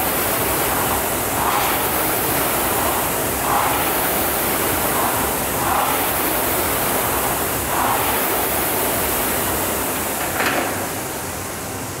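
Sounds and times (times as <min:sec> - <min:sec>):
rowing machine flywheel whoosh: 0:00.0 - 0:09.6.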